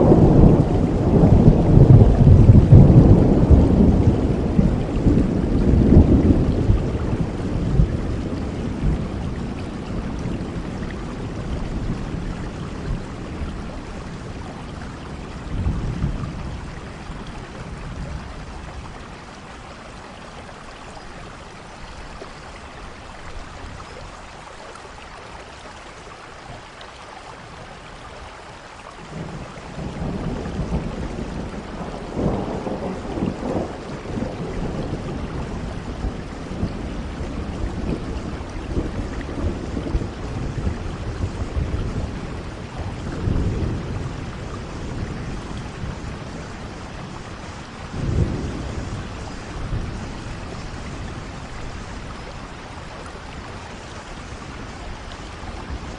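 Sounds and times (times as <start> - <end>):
thunder rumbling: 0.0 - 20.0, 29.0 - 55.9
steady rain falling: 0.0 - 55.9.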